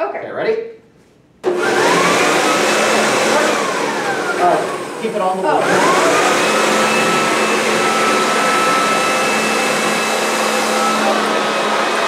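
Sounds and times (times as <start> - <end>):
leaf blower running: 1.4 - 12.0.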